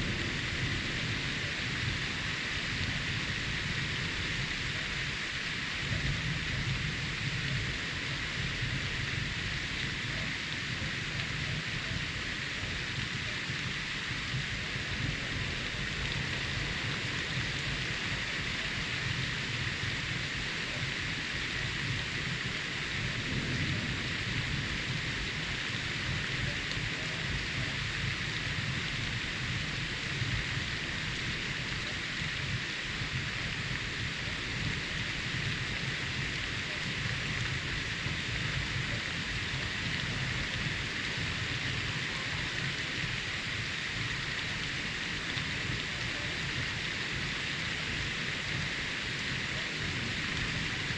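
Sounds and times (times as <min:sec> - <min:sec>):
low rolling thunder: 0:00.0 - 0:43.2
steady rain: 0:00.0 - 0:50.9.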